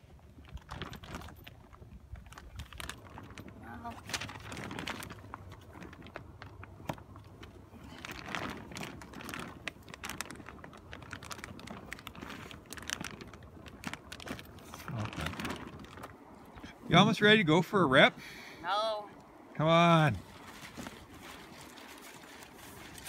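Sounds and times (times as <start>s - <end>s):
nylon fabric rustling: 0.3s - 16.9s, 20.2s - 23.0s.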